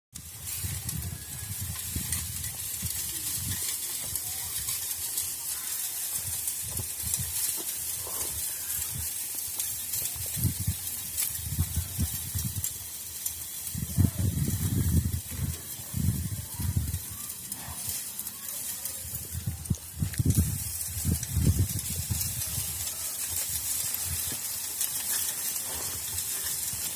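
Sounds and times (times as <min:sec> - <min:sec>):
sand hissing through a screen: 0:00.2 - 0:26.9.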